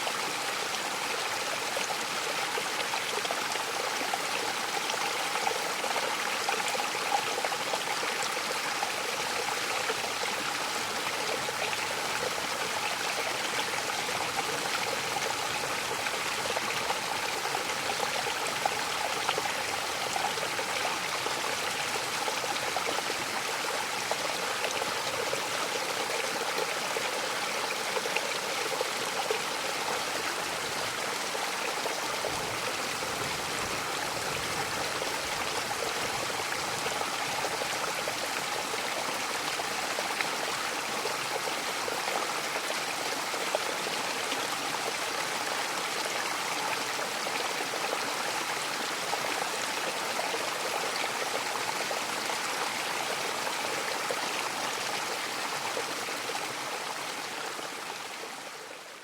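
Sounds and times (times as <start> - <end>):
waterfall rushing and splashing: 6.6 - 57.4.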